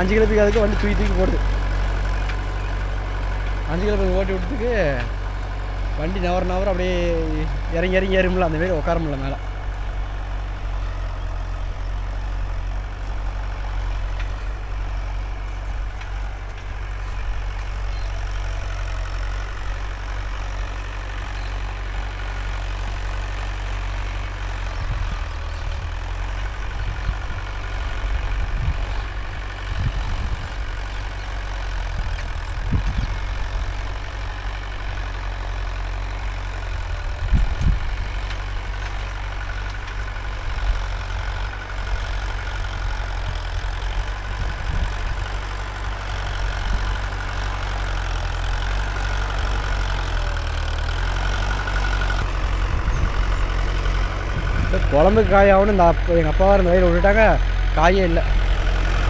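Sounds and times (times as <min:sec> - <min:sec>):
low thuds of tractor jolting: 0:00.0 - 0:59.0
tractor diesel engine running: 0:00.0 - 0:59.0.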